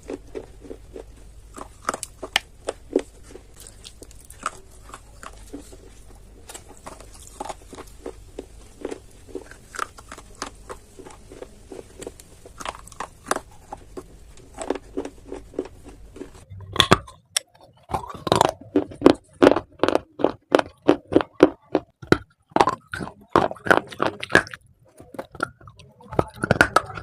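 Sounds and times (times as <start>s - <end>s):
crunching and chewing of clay: 0.0s - 27.0s.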